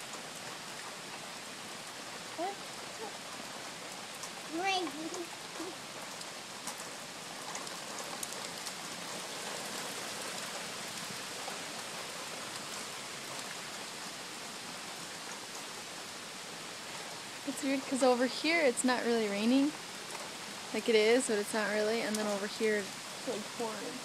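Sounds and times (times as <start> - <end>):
heavy rain on concrete: 0.0 - 24.0.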